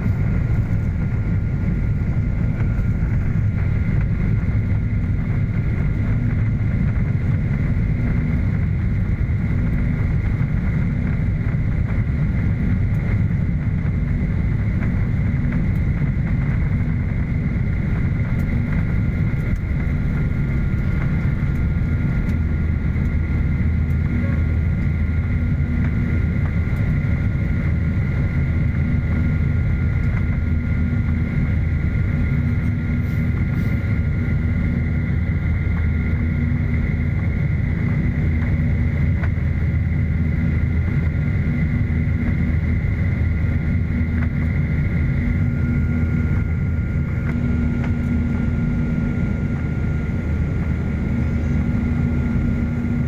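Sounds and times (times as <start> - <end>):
jet engines at takeoff: 0.0 - 53.0.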